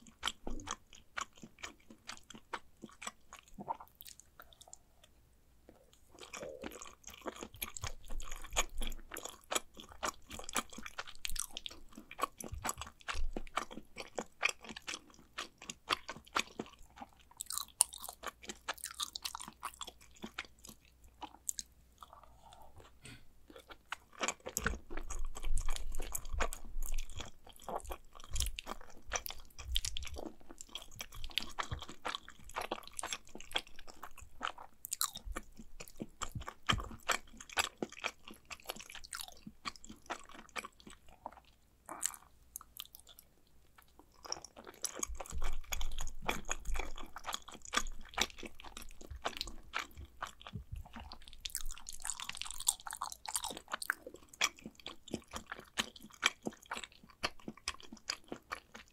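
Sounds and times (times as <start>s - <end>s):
wet chewing mouth sounds: 0.0s - 58.9s.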